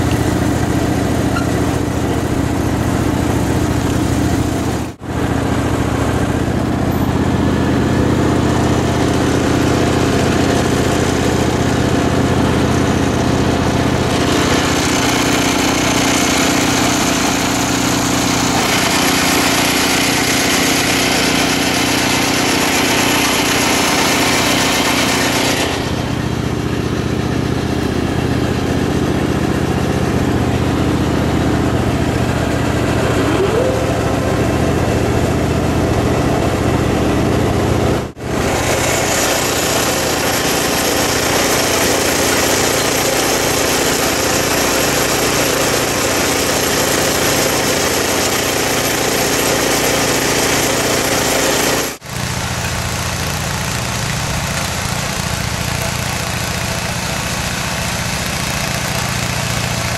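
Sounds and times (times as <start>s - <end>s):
tiller hissing through soil: 0.0s - 59.9s
tractor engine running: 0.0s - 59.9s.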